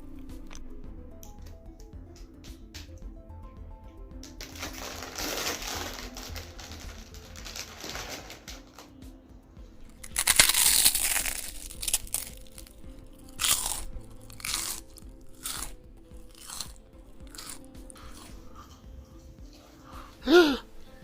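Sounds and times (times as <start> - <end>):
faint background music: 0.0 - 21.0
crunching noises: 4.2 - 21.0.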